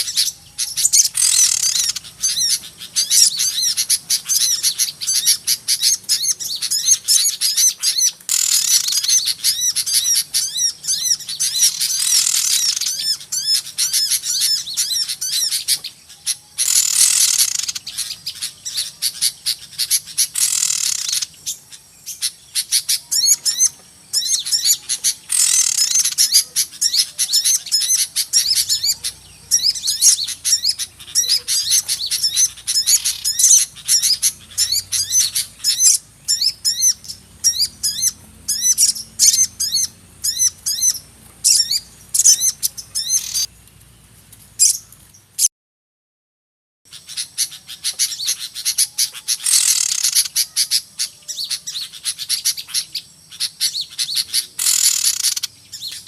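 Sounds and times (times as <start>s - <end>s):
small birds chirping and twittering: 0.0s - 45.5s, 46.9s - 56.0s.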